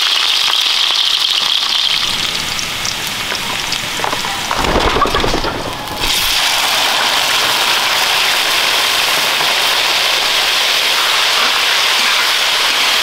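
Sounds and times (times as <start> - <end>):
meat sizzling in hot oil: 0.0 - 4.6, 5.8 - 13.0.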